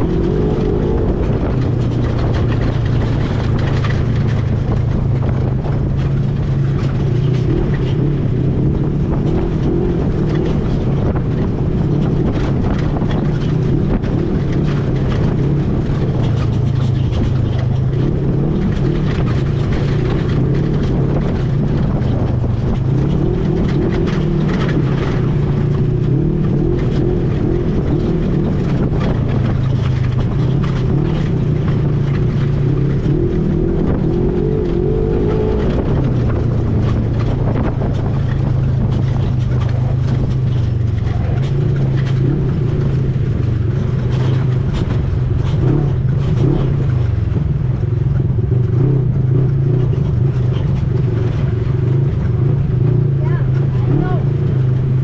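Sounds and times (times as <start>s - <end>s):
atv engine running: 0.0s - 55.0s
noisy rush: 0.0s - 55.0s.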